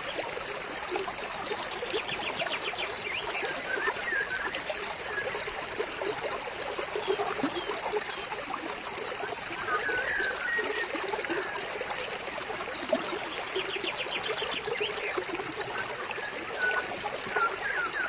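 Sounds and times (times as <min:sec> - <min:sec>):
stream trickling over stones: 0:00.0 - 0:18.0.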